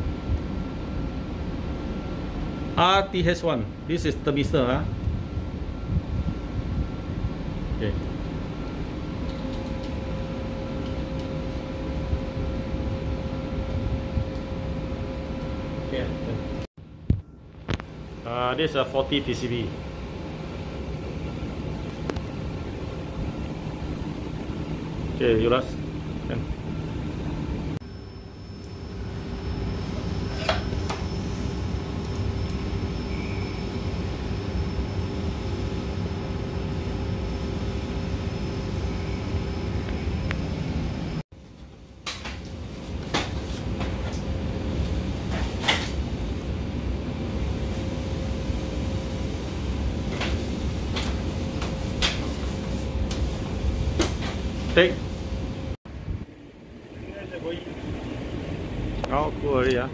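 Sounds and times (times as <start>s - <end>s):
air conditioner airflow: 0.0s - 59.9s.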